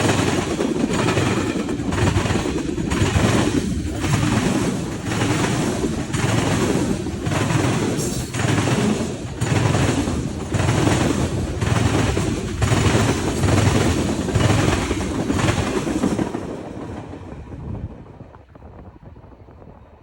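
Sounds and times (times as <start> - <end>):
train wheels clacking on rails: 0.0 - 18.2
train rumble: 0.0 - 20.0.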